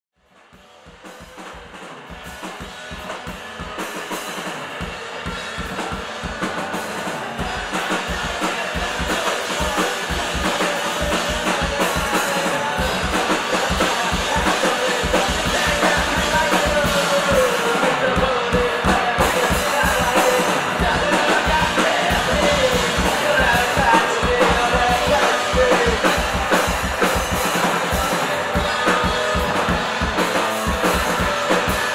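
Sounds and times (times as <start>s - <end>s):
punk band playing live: 0.2s - 31.9s
electric guitar: 0.4s - 31.9s.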